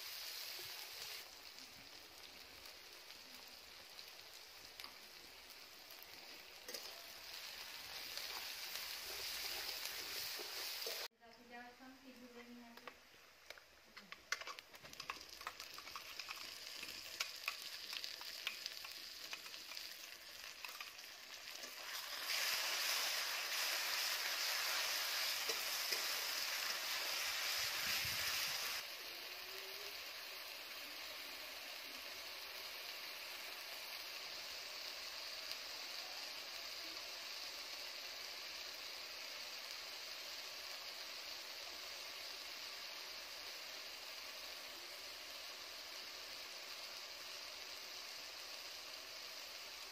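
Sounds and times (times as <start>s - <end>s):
onions sizzling in hot oil: 0.0s - 49.9s.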